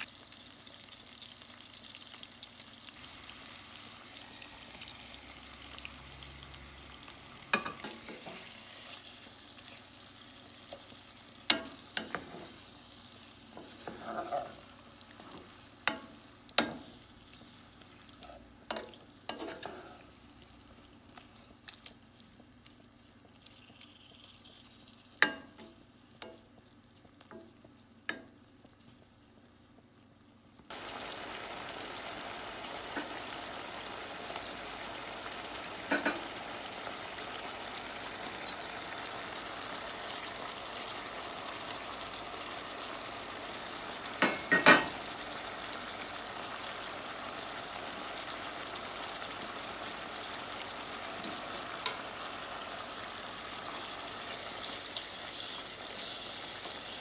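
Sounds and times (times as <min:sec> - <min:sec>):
meat frying sizzle: 0:00.0 - 0:57.0.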